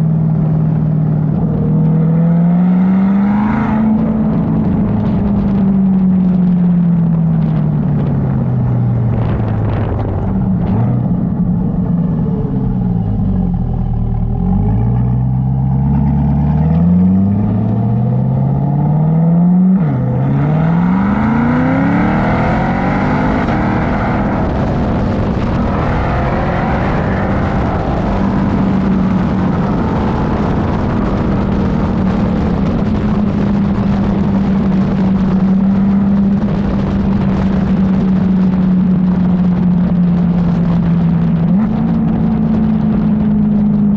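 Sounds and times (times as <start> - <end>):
car engine accelerating and shifting: 0.0 - 43.9
road and wind noise: 0.0 - 43.9.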